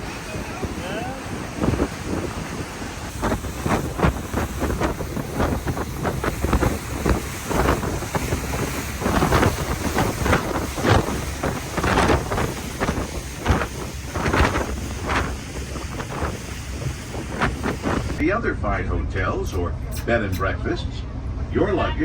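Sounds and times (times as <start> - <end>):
wind buffeting microphone: 0.0 - 18.4
ferry rushing on water: 0.0 - 22.0.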